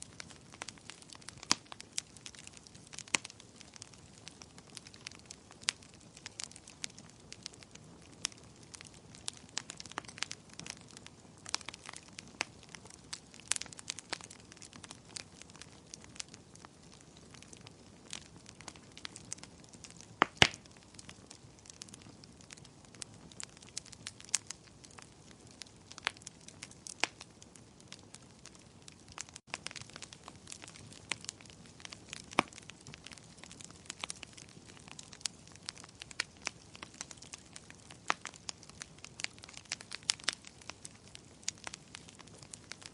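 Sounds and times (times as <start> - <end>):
fire crackling: 0.0 - 42.9
sharp pops of fire: 0.0 - 42.9.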